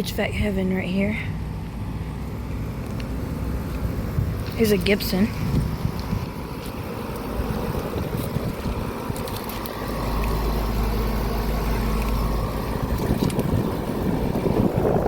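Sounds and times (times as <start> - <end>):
air conditioner fan and compressor hum: 0.0 - 15.0
deep low rumble: 0.0 - 15.0.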